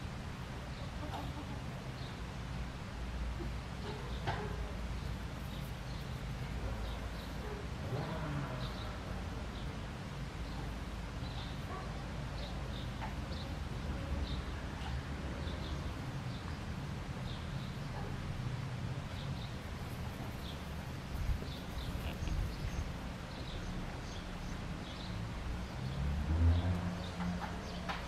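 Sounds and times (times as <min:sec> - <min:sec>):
small birds chirping: 0:03.4 - 0:18.3, 0:19.1 - 0:28.0.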